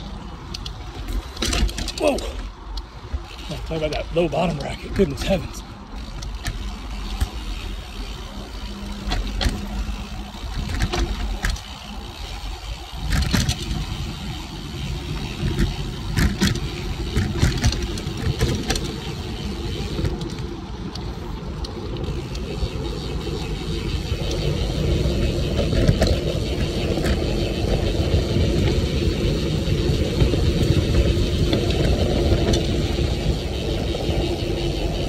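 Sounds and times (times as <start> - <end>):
bike clicking and clattering: 0.0 - 35.0
tires rumbling on dirt: 0.0 - 35.0.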